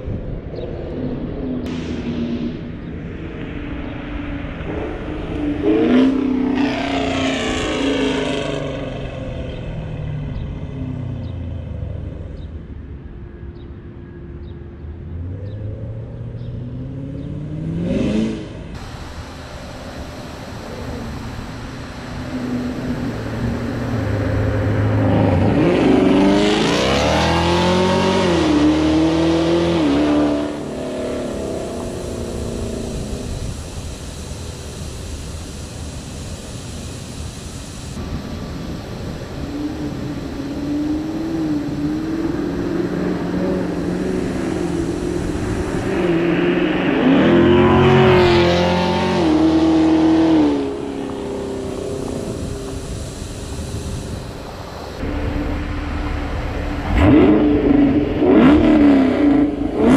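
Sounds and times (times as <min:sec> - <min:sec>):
car exhaust roaring at full throttle: 0:00.0 - 0:59.9.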